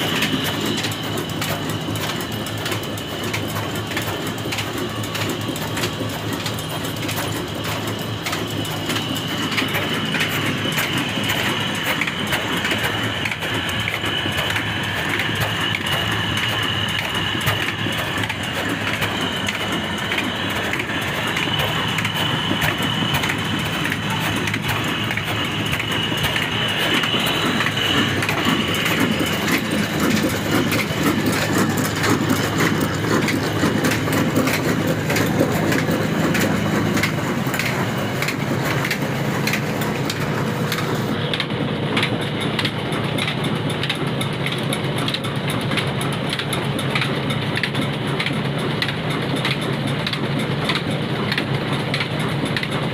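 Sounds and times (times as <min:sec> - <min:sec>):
diesel engine knocking: 0:00.0 - 0:52.9
low hum of flywheels and mill: 0:00.0 - 0:52.9.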